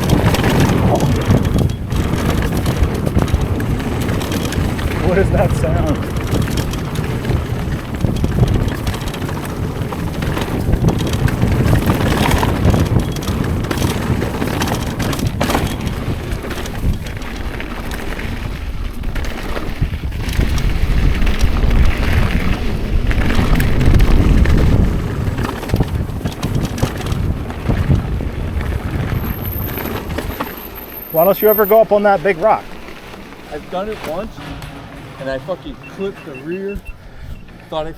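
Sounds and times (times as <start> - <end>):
bike clicks and rattles: 0.0 - 37.9
tyre noise on dirt: 0.0 - 37.9
wind buffeting microphone: 0.0 - 37.9.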